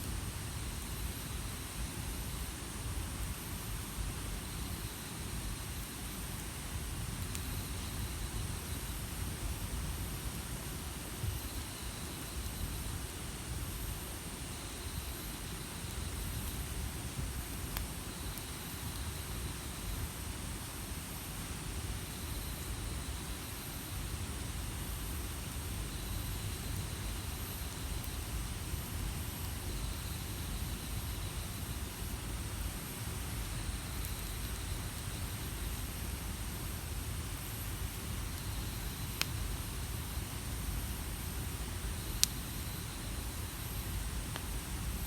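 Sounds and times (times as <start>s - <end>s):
outdoor hiss: 0.0s - 45.0s.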